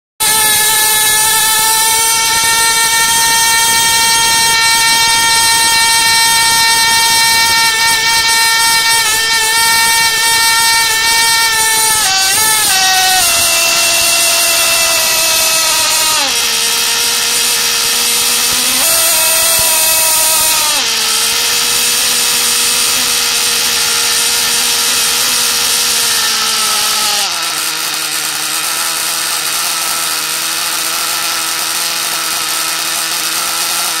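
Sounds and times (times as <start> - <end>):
model glow engine screaming: 0.2 - 34.0.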